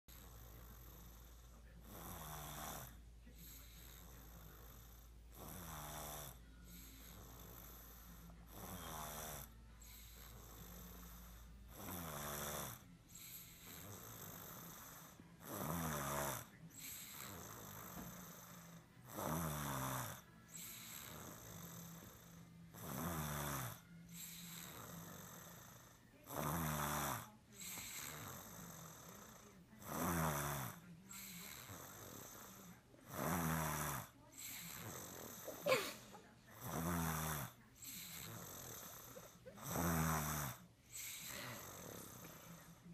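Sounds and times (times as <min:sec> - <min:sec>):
person snoring: 0:00.1 - 0:42.9.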